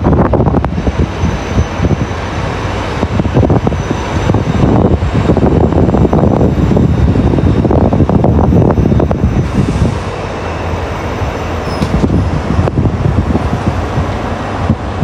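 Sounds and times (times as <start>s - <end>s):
train rumbling and rattling: 0.0s - 15.0s.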